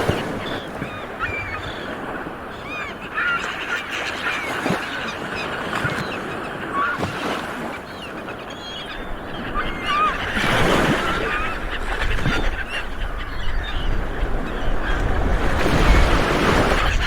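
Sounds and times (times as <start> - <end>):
seabirds calling: 0.0 - 17.0.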